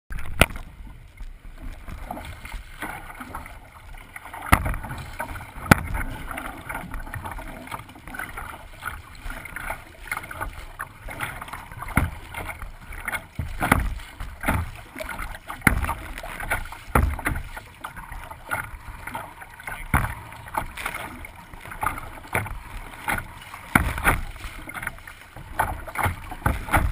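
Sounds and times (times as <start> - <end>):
rush of water: 0.1 - 26.9
waves slapping plastic hull: 0.1 - 26.9.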